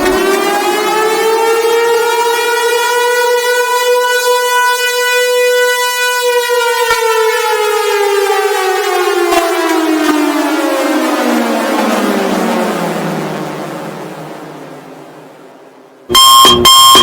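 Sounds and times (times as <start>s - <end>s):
warning siren wailing: 0.0s - 17.0s.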